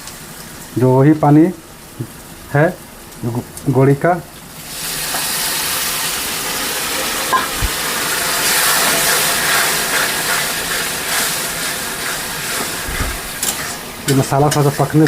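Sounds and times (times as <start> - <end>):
water sizzling in hot pan: 0.0 - 15.0.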